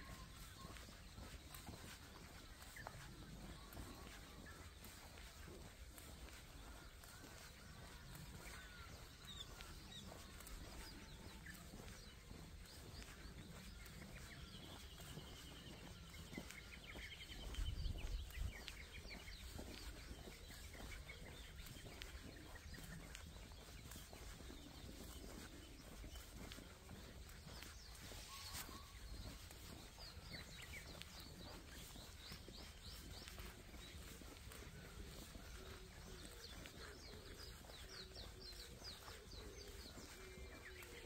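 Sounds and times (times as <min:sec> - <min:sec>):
birds chirping and calling: 0:00.0 - 0:41.0.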